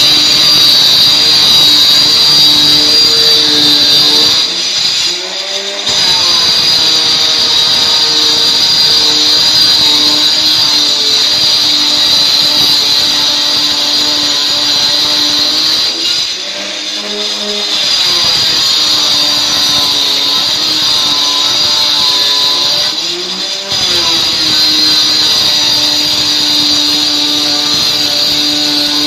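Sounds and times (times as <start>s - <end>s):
electric stone saw whining: 0.0s - 29.0s.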